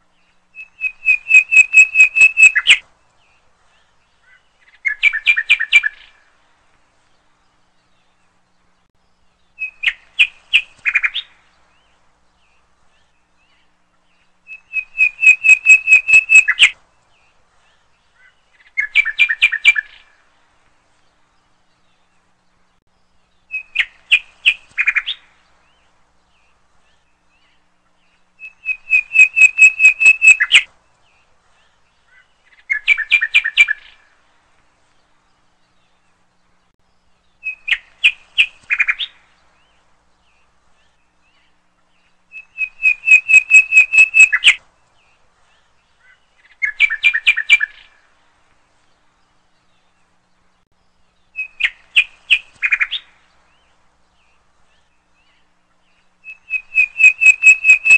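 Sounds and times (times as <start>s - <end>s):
bird chirping: 0.0s - 48.2s, 48.8s - 57.9s.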